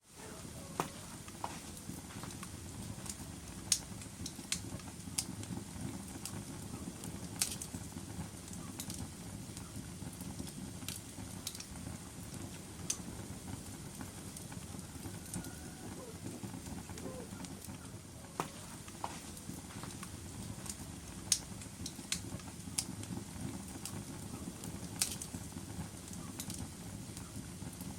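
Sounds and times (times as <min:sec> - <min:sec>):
fire burning: 0:00.0 - 0:27.9
logs crackling and popping: 0:00.1 - 0:27.9.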